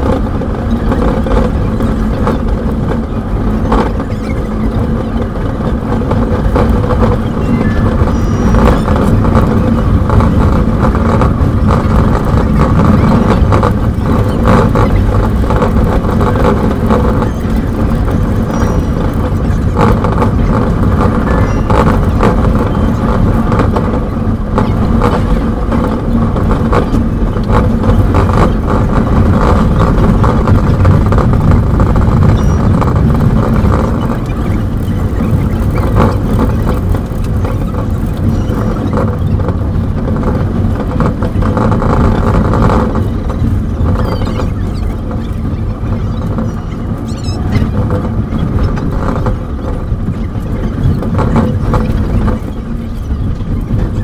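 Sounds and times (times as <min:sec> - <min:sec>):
train rumble and rattle: 0:00.0 - 0:54.0.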